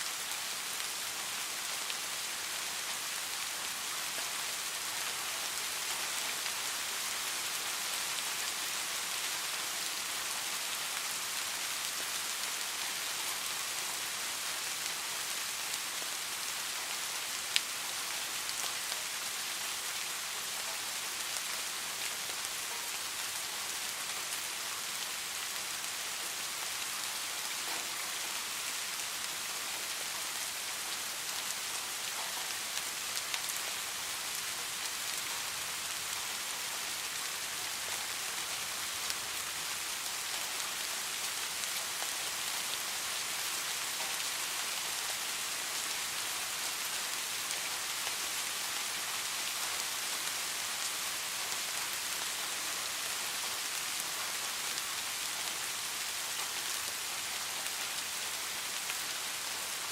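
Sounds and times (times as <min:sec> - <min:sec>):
dense rain hissing: 0:00.0 - 0:59.9.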